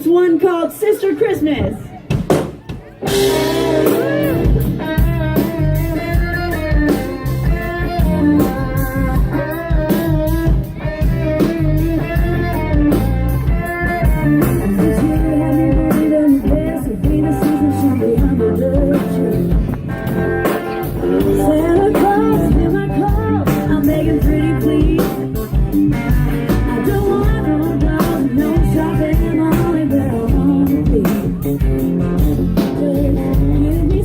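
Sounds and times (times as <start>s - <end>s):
guitar: 1.4s - 34.0s
drum kit beat: 2.0s - 34.0s.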